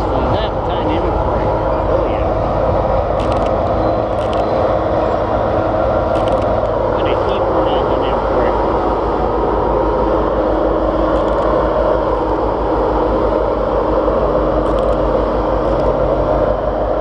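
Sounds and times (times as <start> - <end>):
miniature train rumbling on track: 0.0 - 17.0.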